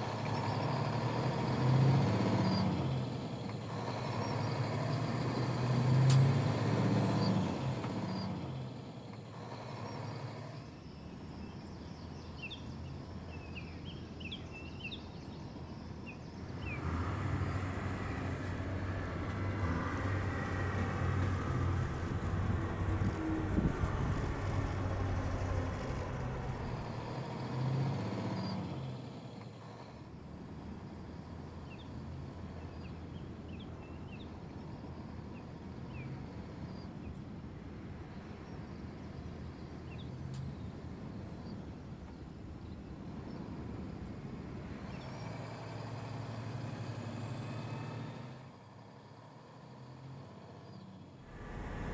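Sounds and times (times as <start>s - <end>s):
truck diesel engine running: 0.0s - 15.7s, 23.6s - 51.9s.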